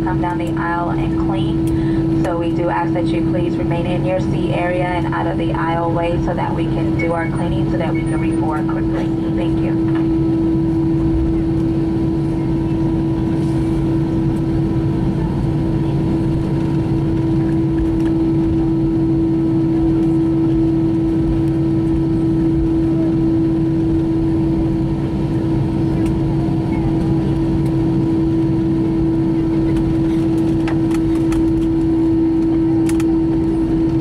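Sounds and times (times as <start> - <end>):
jet engines idling hum: 0.0 - 34.0.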